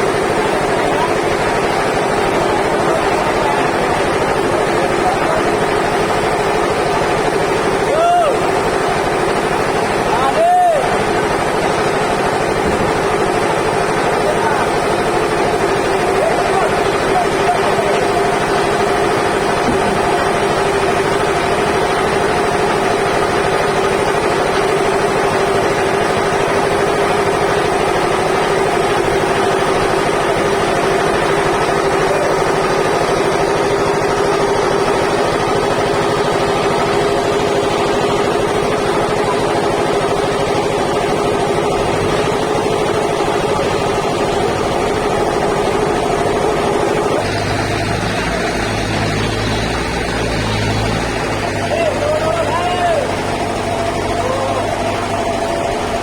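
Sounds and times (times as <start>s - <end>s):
band saw machinery humming: 0.0s - 56.0s.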